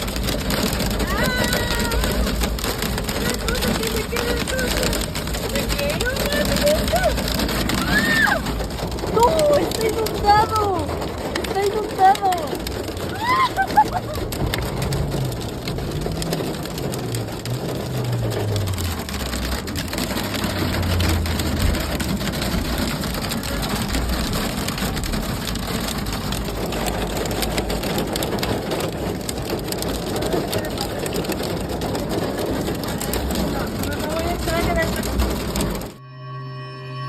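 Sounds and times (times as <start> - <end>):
heavy rain on hard surfaces: 0.0 - 36.0.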